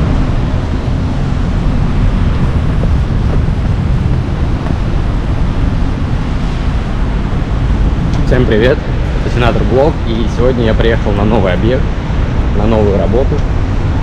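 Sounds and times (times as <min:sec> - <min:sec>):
low rumble of city traffic: 0:00.0 - 0:14.0
wind buffeting microphone: 0:00.0 - 0:14.0.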